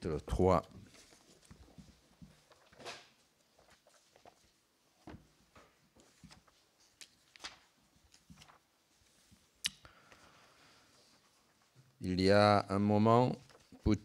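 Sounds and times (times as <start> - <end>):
pages rustling near microphone: 0.3 - 12.0, 13.1 - 14.0.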